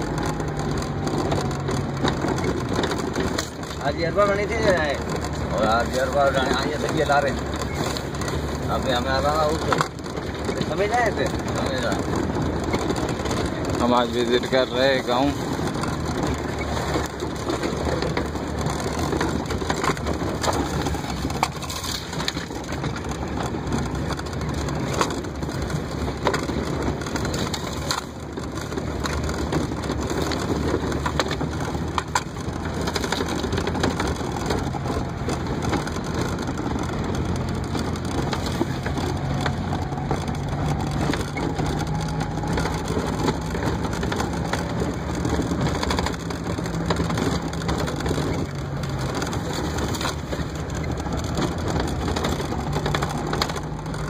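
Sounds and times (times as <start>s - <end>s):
vehicle engine drone: 0.0s - 54.0s
vehicle rattling and knocking: 0.0s - 54.0s.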